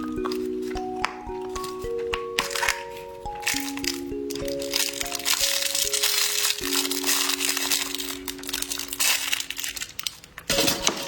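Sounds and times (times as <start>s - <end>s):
foil wrapper crinkling: 0.0s - 11.0s
slow background music: 0.0s - 11.0s.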